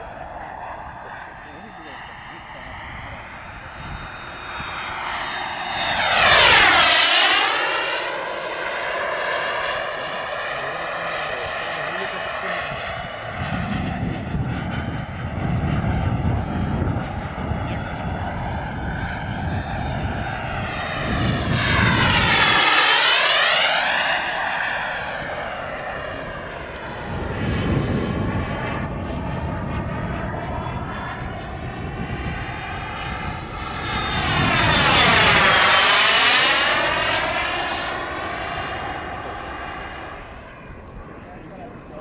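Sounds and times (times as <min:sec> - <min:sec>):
model jet turbine whining: 0:00.0 - 0:42.0.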